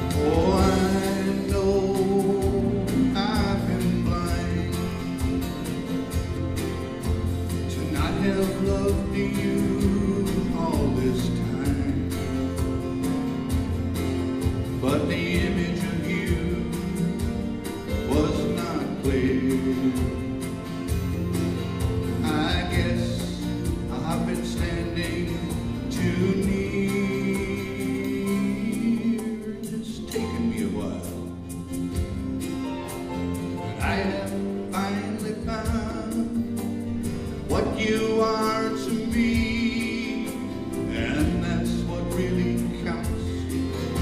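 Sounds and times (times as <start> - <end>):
acoustic guitar strumming: 0.0 - 44.0
bass line: 0.0 - 44.0
sliding lead melody: 0.0 - 44.0.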